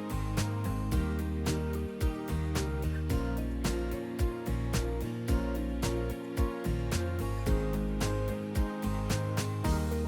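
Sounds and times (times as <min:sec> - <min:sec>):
drum hits: 0:00.0 - 0:10.0
music with bass and chords: 0:00.0 - 0:10.0.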